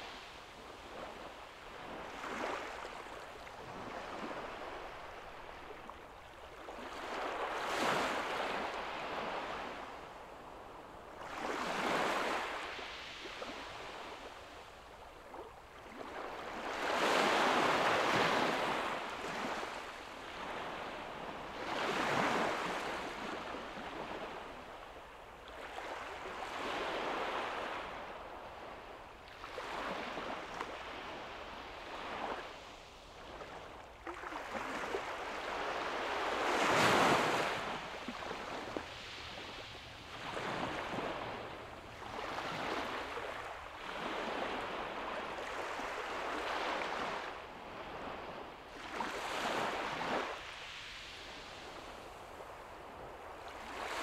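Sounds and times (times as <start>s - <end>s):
gentle waves breaking on beach: 0.0s - 54.0s.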